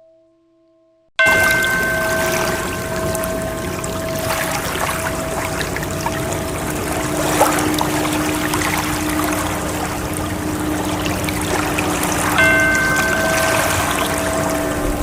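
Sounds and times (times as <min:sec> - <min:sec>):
bright tone with several pitches: 0:01.2 - 0:15.0
ocean waves washing: 0:01.2 - 0:15.0
soft held ambient tones: 0:01.2 - 0:15.0.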